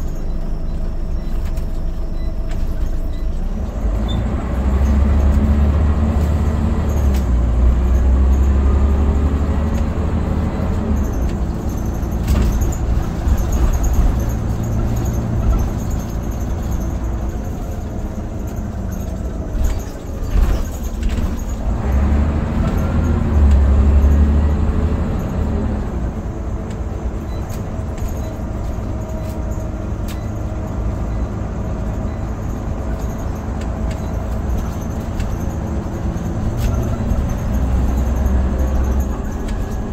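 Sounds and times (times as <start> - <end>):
bus body rattles and knocks: 0.0 - 39.9
bus diesel engine: 0.0 - 39.9.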